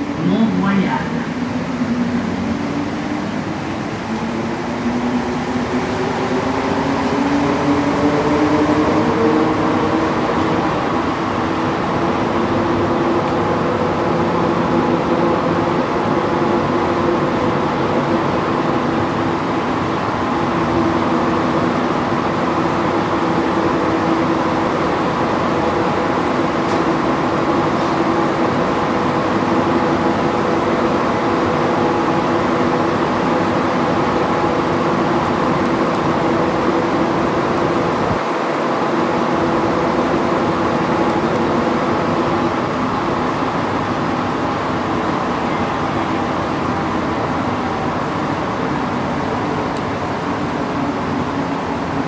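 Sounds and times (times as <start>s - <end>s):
metro train rumble: 0.0s - 52.0s.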